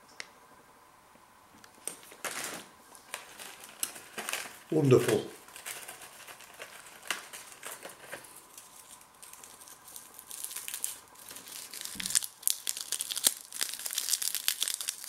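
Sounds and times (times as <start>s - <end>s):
crispy seaweed crackling: 1.8s - 15.0s.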